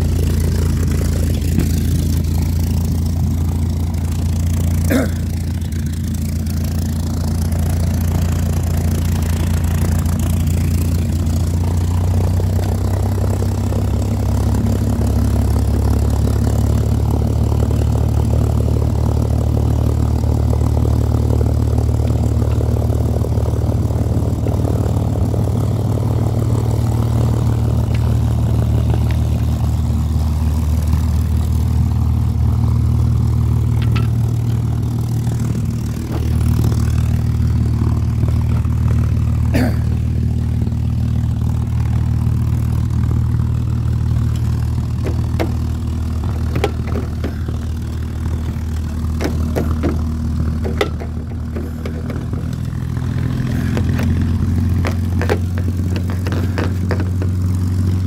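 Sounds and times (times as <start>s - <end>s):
small engine idling: 0.0s - 58.0s.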